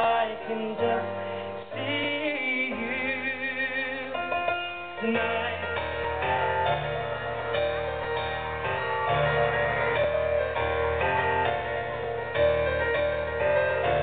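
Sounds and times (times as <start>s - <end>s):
electric keyboard chords: 0.0s - 14.0s.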